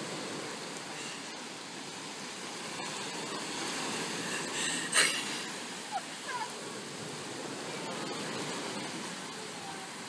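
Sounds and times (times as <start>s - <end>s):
ocean surf: 0.0s - 10.0s
wind: 0.0s - 10.0s.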